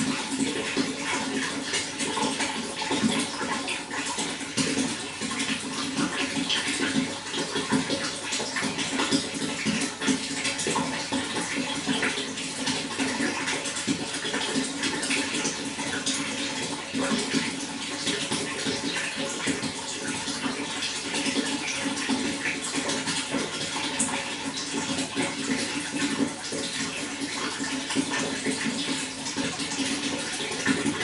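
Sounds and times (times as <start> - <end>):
running water splashing: 0.0 - 31.0.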